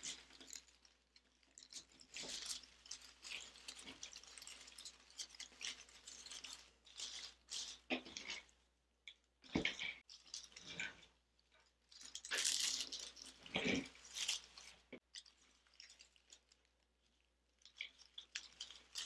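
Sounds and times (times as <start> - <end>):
artificial greenery rustling: 0.0 - 8.6, 11.8 - 19.0.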